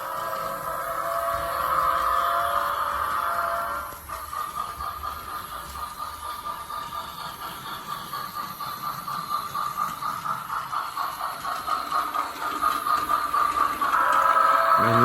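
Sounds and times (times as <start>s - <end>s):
rhythmic steam chuff sound effect: 0.0s - 15.0s
toy train motor whining: 0.0s - 15.0s.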